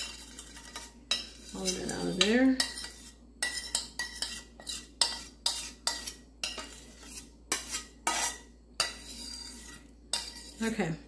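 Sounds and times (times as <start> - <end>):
utensil scraping a saucepan: 0.0 - 11.0.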